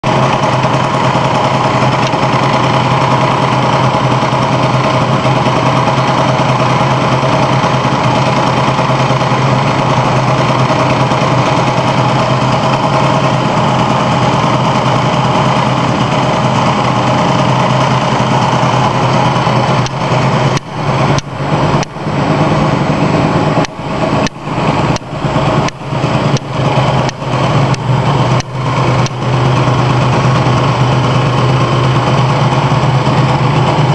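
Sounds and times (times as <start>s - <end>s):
scooter engine revving: 0.0s - 33.9s.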